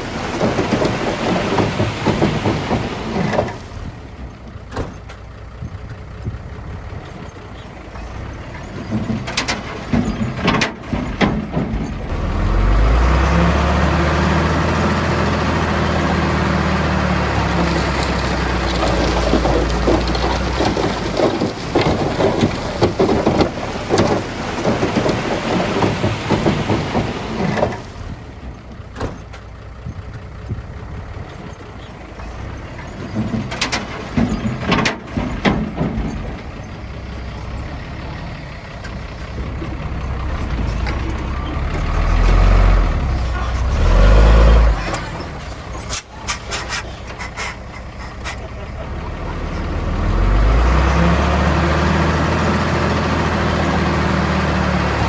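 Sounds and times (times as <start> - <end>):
deep engine rumble: 0.0 - 55.0
machinery rattling and grinding: 0.0 - 55.0.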